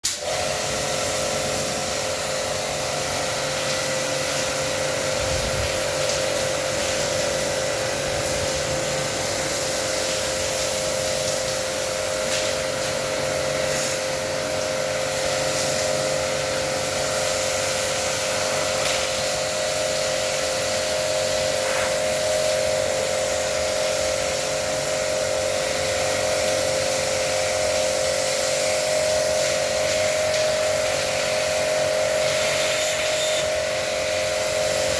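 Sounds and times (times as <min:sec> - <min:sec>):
electric water pump whining: 0:00.0 - 0:34.9
water spray hissing: 0:00.0 - 0:34.9.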